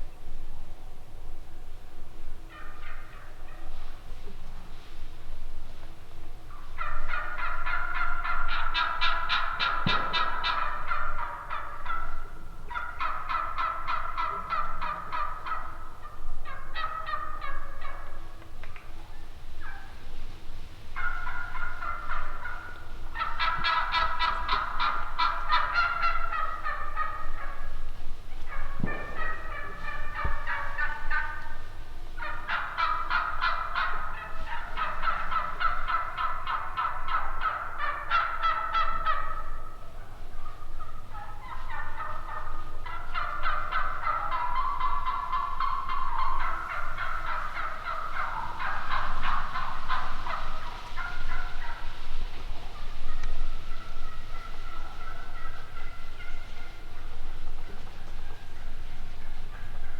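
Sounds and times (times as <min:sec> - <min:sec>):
turkeys gobbling: 0:00.0 - 0:59.9.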